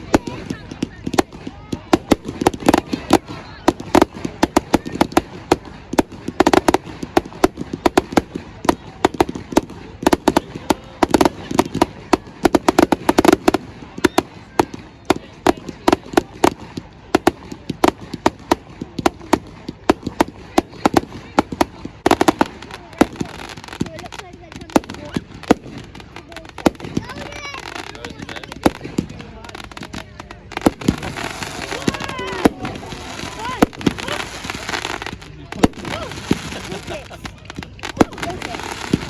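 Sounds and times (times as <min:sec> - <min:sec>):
fireworks bangs and cracks: 0:00.0 - 0:39.0.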